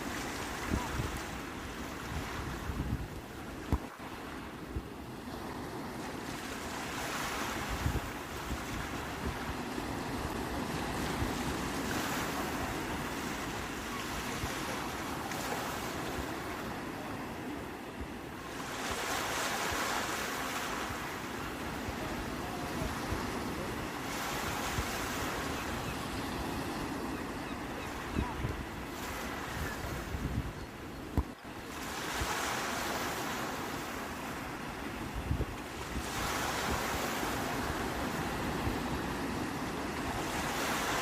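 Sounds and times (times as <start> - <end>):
sea waves breaking on shore: 0.0 - 41.0.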